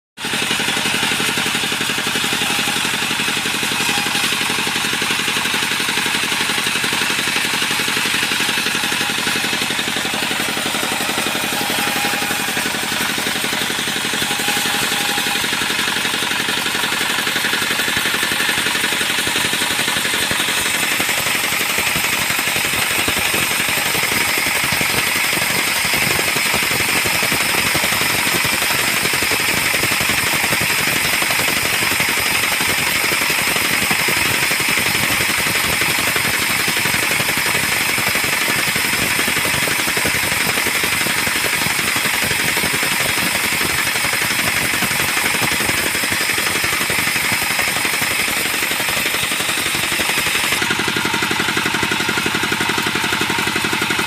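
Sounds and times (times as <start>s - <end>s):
diesel engine chugging: 0.2s - 54.0s.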